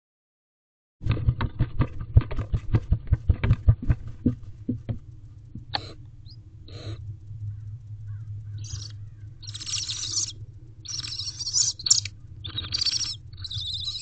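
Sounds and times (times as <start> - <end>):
steady low hum: 1.0 - 14.0.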